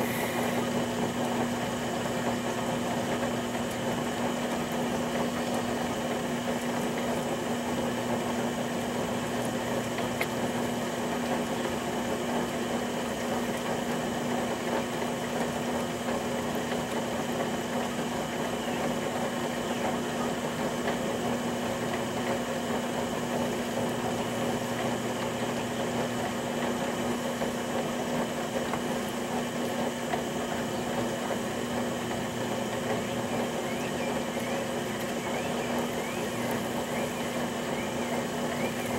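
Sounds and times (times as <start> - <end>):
potter's wheel motor humming: 0.0 - 38.9.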